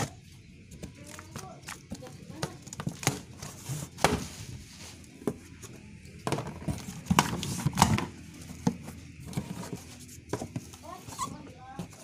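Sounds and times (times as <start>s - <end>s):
cardboard flaps and tape rustling: 0.0s - 12.0s.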